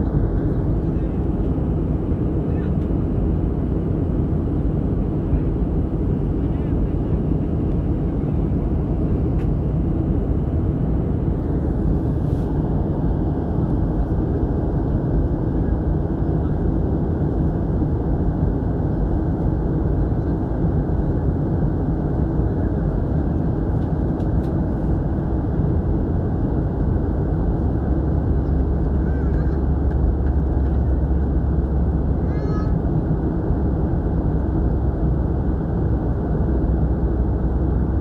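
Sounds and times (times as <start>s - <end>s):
jet engine and rushing air in cabin: 0.0s - 38.0s.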